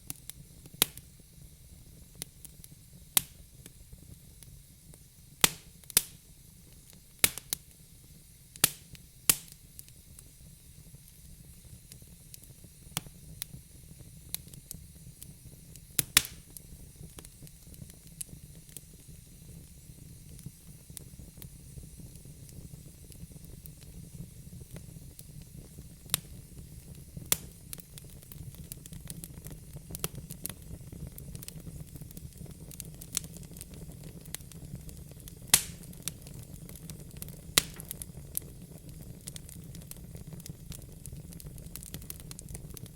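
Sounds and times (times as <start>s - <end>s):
wood fire crackling and popping: 0.0s - 7.9s, 8.5s - 42.9s
low rumble of burning: 0.0s - 42.9s.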